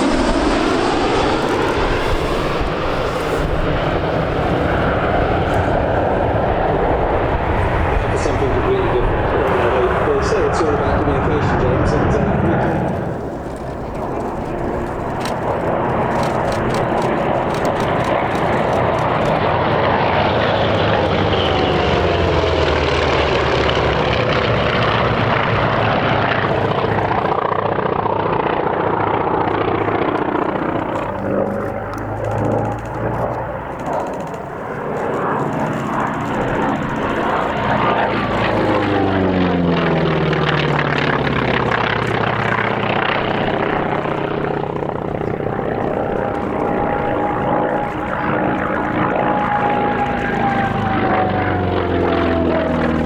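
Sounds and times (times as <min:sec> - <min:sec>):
propeller aircraft engine passing: 0:00.0 - 0:53.0.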